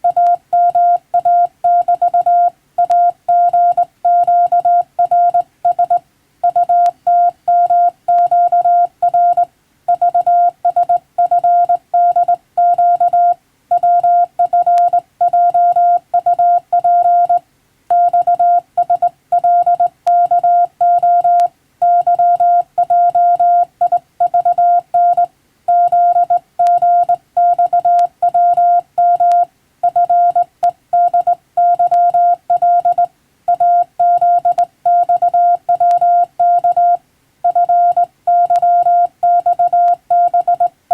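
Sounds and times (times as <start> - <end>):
morse code beeps: 0.0 - 40.7.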